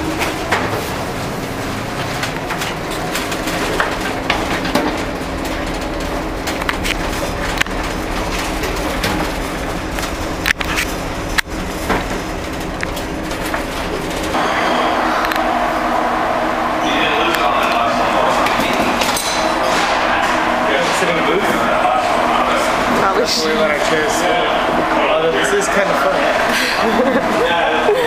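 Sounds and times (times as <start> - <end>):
ship engines droning: 0.0 - 28.0.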